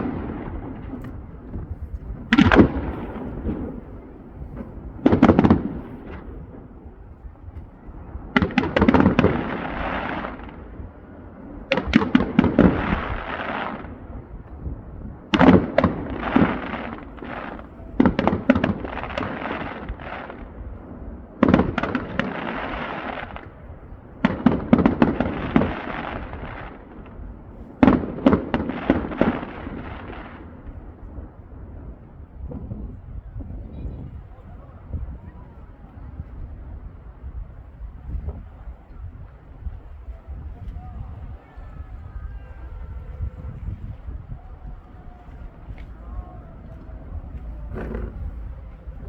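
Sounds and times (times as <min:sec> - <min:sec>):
fireworks bursting with sharp bangs: 0:00.0 - 0:35.1, 0:36.0 - 0:49.0.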